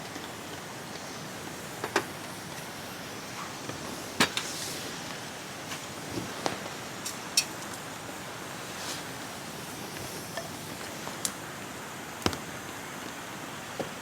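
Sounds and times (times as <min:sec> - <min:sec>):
campfire crackling: 0:00.0 - 0:13.4
rain hissing: 0:00.0 - 0:13.6.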